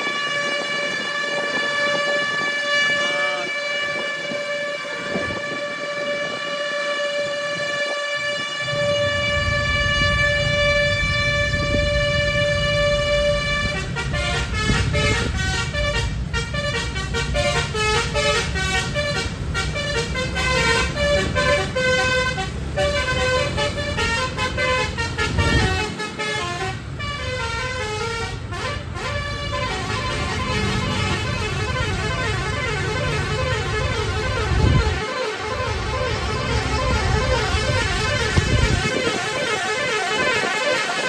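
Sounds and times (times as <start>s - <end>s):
musical bus horn: 0.0s - 41.0s.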